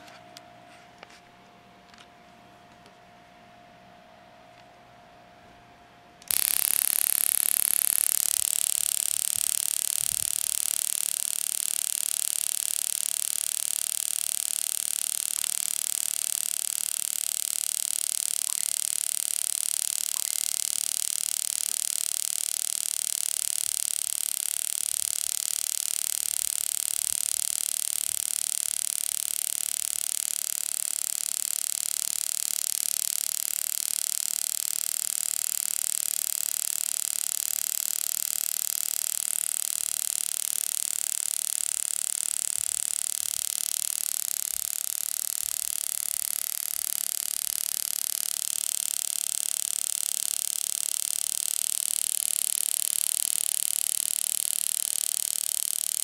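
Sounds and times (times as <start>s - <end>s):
tesla coil buzzing hiss: 6.2s - 56.0s.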